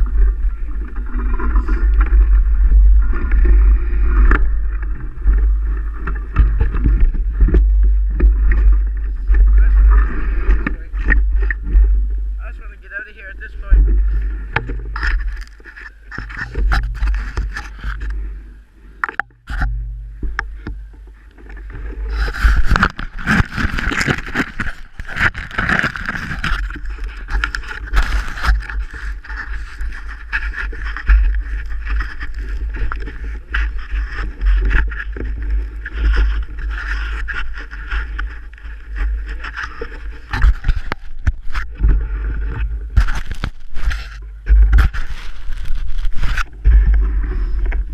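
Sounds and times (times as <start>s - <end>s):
bicycle tyre noise on wet trail: 0.0s - 19.0s, 20.1s - 47.9s
heavy buffeting rumble: 0.0s - 47.9s.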